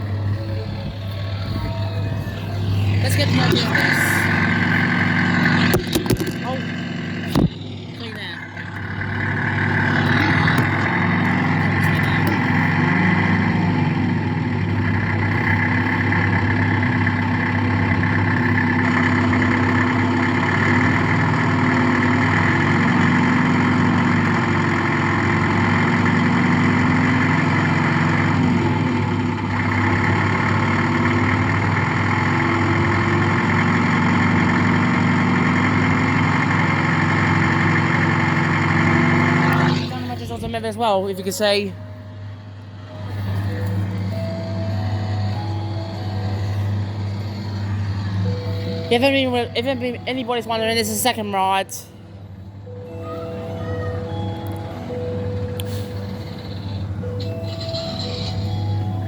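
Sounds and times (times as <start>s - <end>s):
tractor engine idling from speaker: 0.0s - 52.8s, 53.9s - 59.0s.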